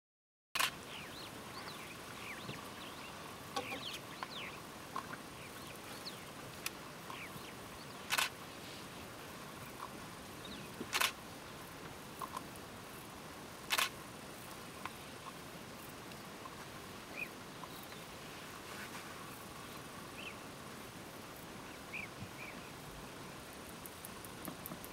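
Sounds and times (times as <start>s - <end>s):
background hiss: 0.6s - 24.9s.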